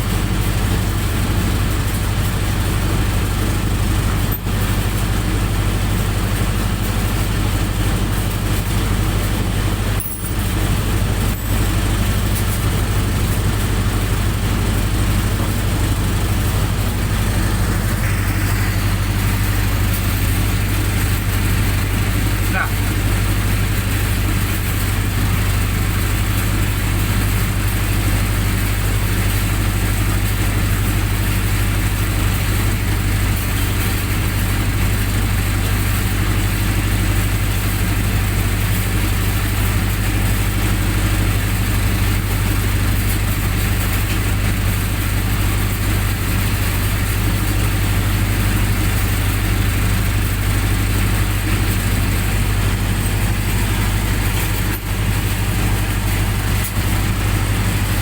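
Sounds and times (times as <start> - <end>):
generator engine humming: 0.0 - 58.0.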